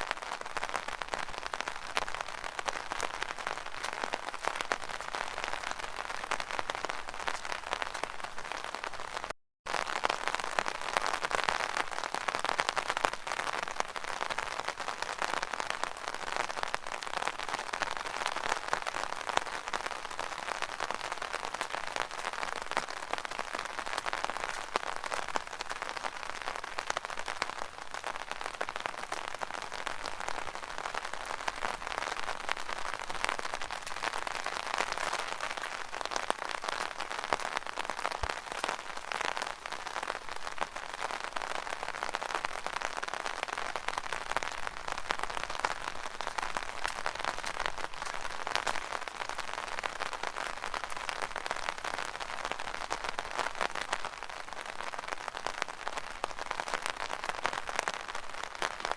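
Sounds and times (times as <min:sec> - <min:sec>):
rain pattering on an umbrella: 0:00.0 - 0:58.9.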